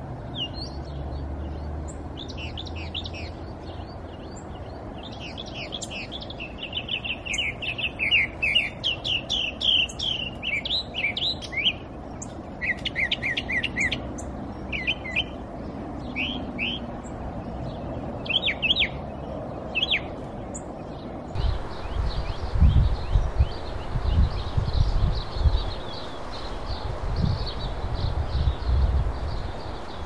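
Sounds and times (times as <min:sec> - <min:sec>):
small songbirds chirping: 0:00.0 - 0:30.0.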